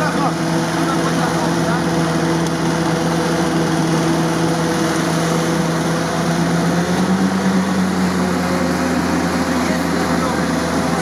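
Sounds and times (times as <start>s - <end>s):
petrol engine at raised idle: 0.0s - 11.0s.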